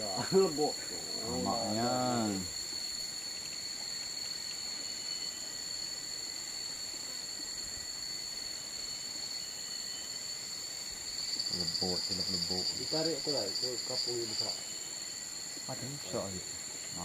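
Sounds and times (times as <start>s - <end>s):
insect chorus drones: 0.0s - 17.0s.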